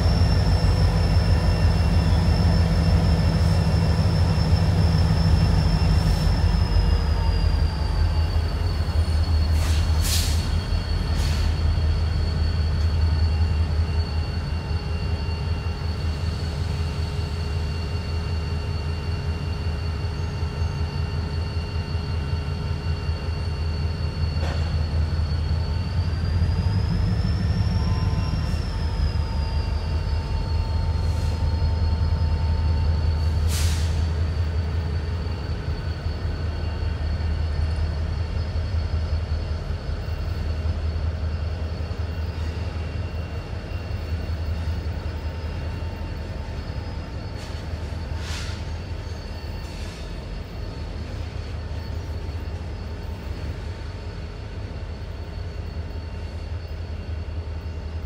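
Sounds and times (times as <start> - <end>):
diesel locomotive rumbling: 0.0 - 58.0
steady high whine: 0.0 - 58.0.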